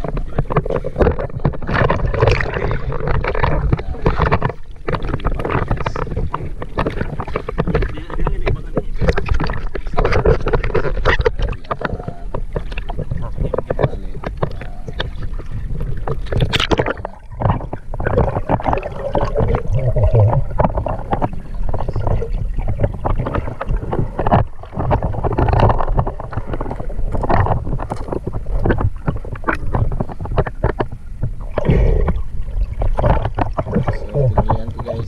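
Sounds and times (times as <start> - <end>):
water splashing and gurgling: 0.0 - 35.0.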